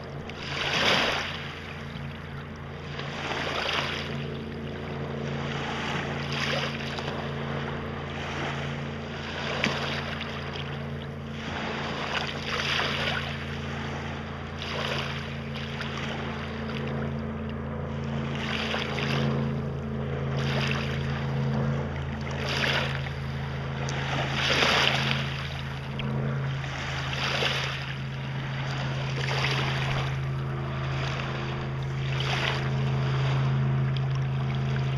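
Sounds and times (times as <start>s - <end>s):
lake waves lapping: 0.0s - 34.9s
motorboat engine hum: 0.0s - 34.9s.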